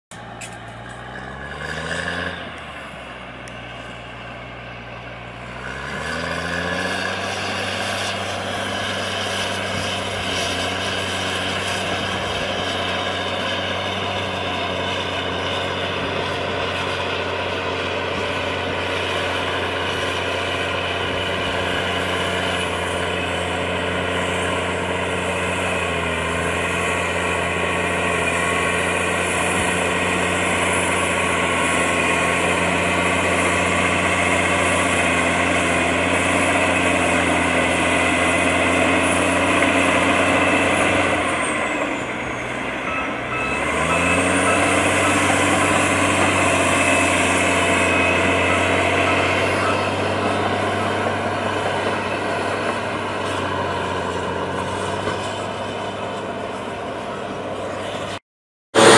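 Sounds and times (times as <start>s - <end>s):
bulldozer diesel engine: 0.0s - 58.2s.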